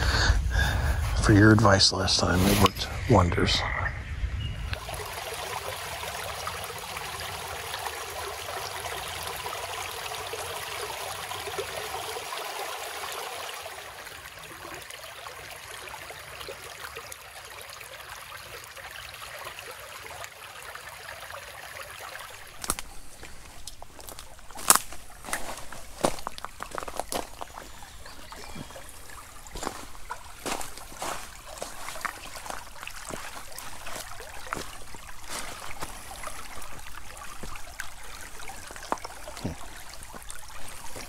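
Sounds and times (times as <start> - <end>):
creek trickling over pebbles: 0.5 - 3.6, 4.7 - 41.0.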